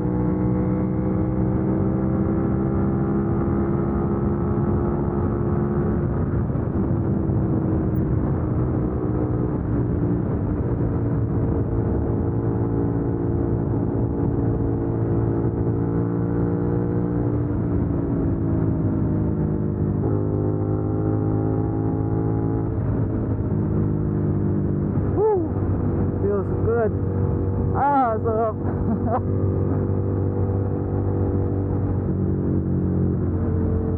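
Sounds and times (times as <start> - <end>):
motorcycle engine at highway speed: 0.0 - 33.9
wind noise: 0.0 - 33.9.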